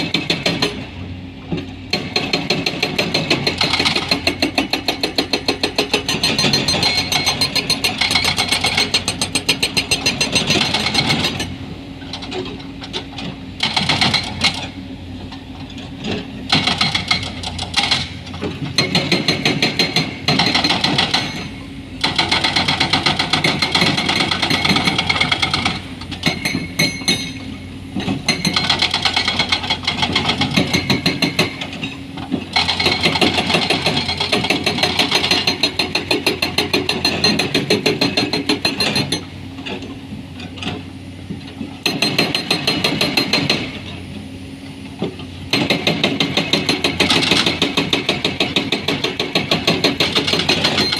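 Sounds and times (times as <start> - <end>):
hydraulic breaker hammering rock: 0.0 - 0.9, 1.5 - 14.8, 16.0 - 39.9, 40.7 - 44.0, 45.0 - 50.9
diesel engine running: 0.0 - 50.9.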